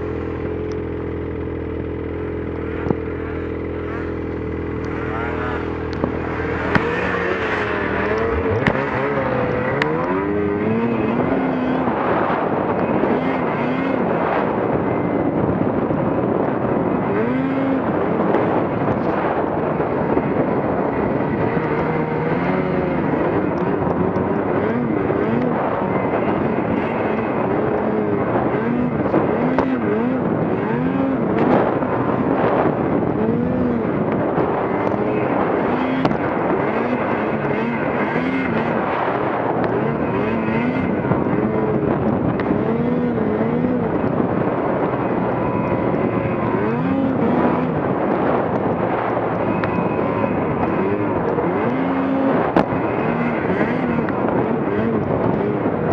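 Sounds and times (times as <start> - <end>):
rushing wind and snow: 0.0 - 55.9
snowmobile engine revving: 0.0 - 55.9.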